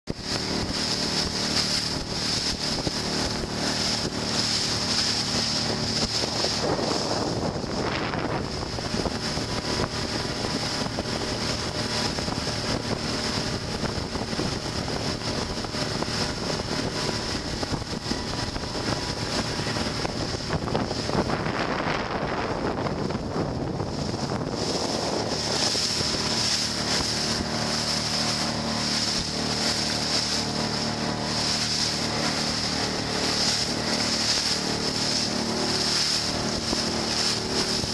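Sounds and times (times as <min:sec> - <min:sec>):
outboard motor running: 0:00.0 - 0:37.9
water rushing along hull: 0:00.0 - 0:37.9
wind buffeting microphone: 0:00.1 - 0:37.9.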